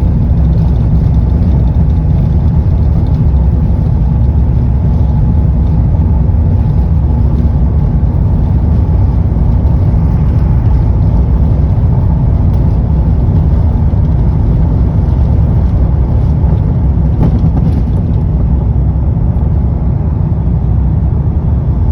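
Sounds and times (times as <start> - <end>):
jet engines rumbling: 0.0 - 21.9.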